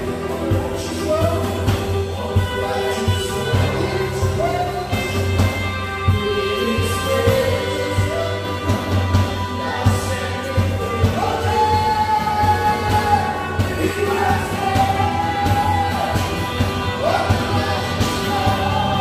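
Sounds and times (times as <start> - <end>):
bass guitar: 0.0 - 19.0
drum kit: 0.0 - 19.0
electric guitar: 0.0 - 19.0
man singing into microphone: 0.0 - 19.0.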